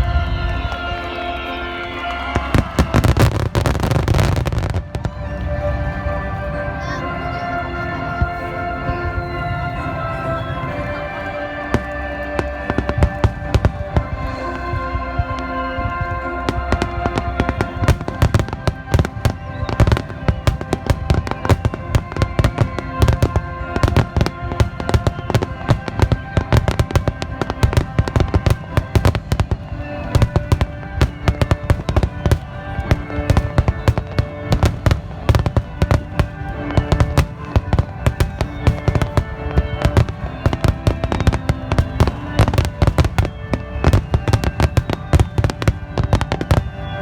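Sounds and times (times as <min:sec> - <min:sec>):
fireworks bursting: 0:00.0 - 0:47.0
music playing: 0:00.0 - 0:47.0.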